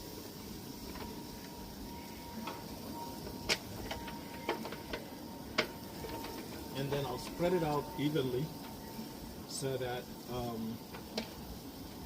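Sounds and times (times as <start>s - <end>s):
grill hissing: 0.0s - 12.0s
skewers clicking on grill grate: 0.1s - 1.6s, 2.4s - 12.0s.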